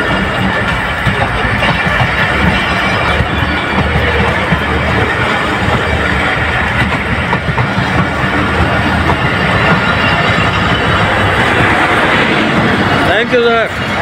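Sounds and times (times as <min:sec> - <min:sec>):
train wheels running on rails: 0:00.0 - 0:14.0.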